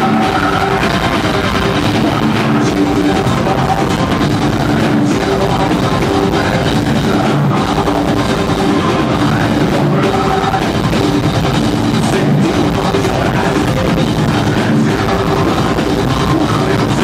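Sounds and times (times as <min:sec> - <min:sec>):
distorted electric guitars: 0:00.0 - 0:17.0
pounding drum kit: 0:00.0 - 0:17.0.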